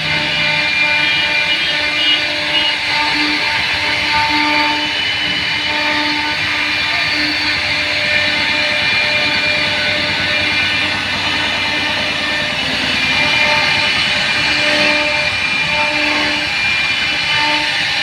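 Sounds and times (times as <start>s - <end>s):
router spindle noise: 0.0s - 18.0s.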